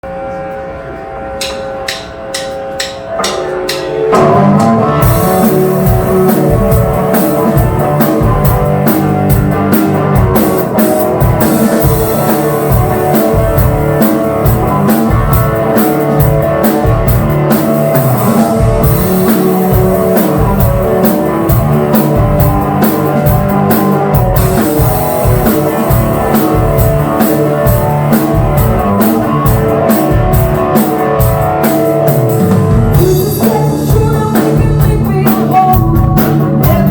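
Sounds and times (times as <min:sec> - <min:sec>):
rock band playing: 0:00.0 - 0:36.9.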